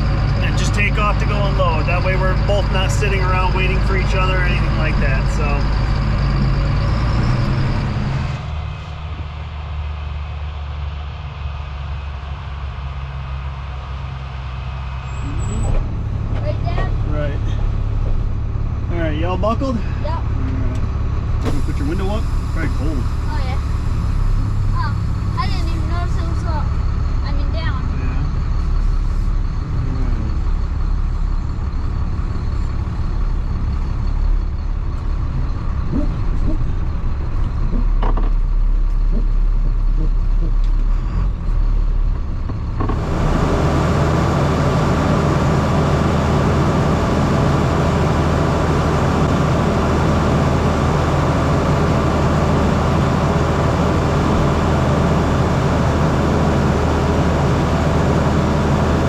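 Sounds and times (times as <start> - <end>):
road noise: 0.0 - 59.0
truck engine running: 0.0 - 59.0.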